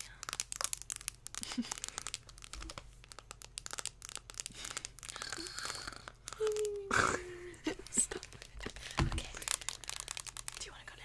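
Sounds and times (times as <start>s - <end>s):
close crinkling and crackling: 0.0s - 11.0s.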